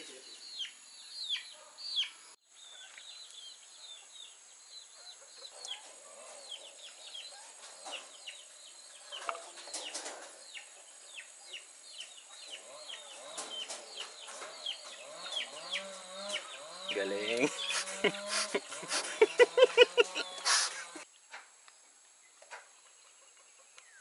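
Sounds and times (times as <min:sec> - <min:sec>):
birds chirping: 0:00.0 - 0:21.3.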